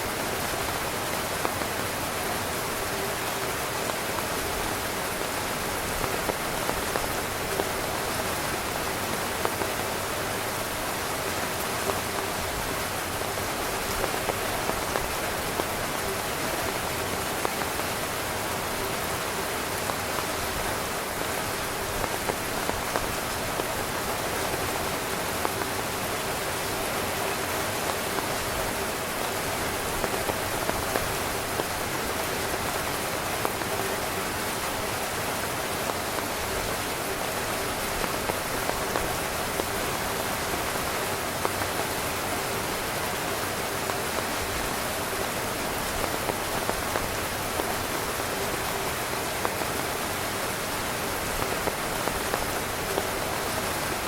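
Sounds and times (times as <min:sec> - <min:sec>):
heavy rain pattering on a tent: 0:00.0 - 0:54.0.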